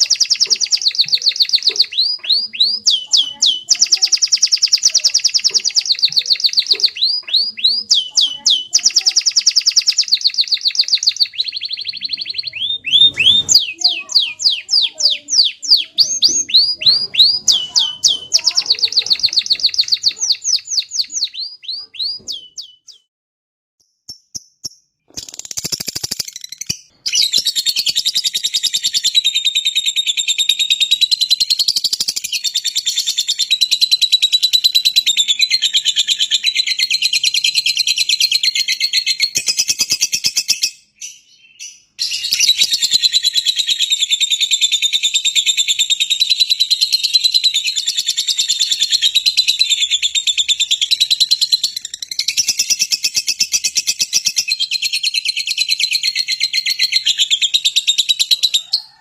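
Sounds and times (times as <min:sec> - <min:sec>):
songbird twittering song: 0:00.0 - 0:23.1, 0:23.8 - 0:59.0.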